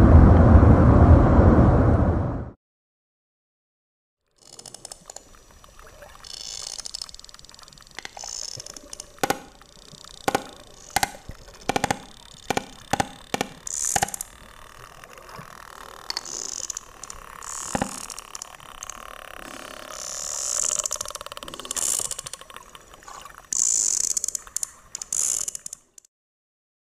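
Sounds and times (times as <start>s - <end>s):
whale clicks underwater: 4.4s - 26.0s.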